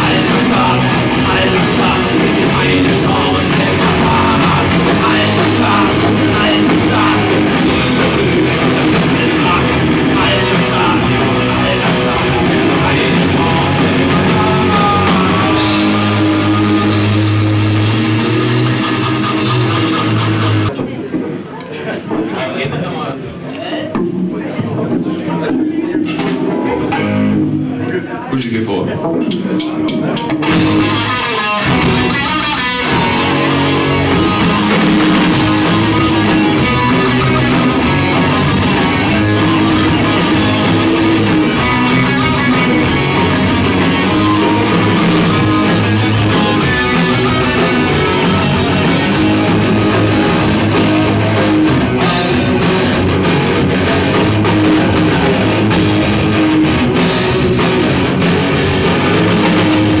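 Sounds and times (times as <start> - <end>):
rock band playing: 0.0 - 21.6, 23.9 - 60.0.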